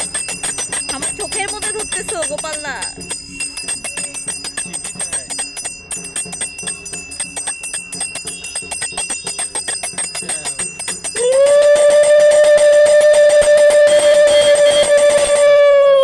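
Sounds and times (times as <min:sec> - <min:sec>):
hand bell rung fast: 0:00.0 - 0:15.7
loud held tone: 0:00.0 - 0:16.0.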